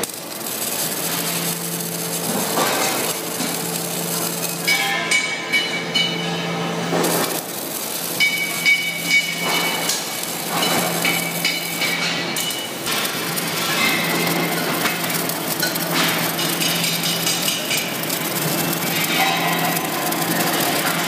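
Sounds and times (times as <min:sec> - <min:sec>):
crackling welding arc: 0:00.0 - 0:21.0
steady machine hum: 0:00.0 - 0:21.0.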